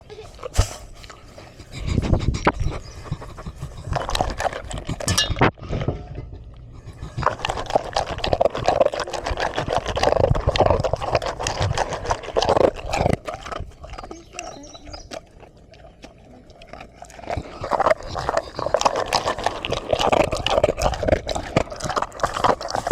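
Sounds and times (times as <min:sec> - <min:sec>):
dog chewing wetly: 0:00.0 - 0:22.9.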